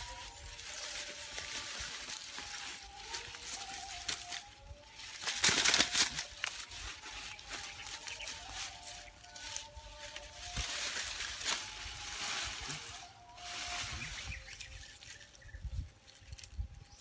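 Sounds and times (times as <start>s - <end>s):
rustling of dry leaves and twigs: 0.0s - 17.0s.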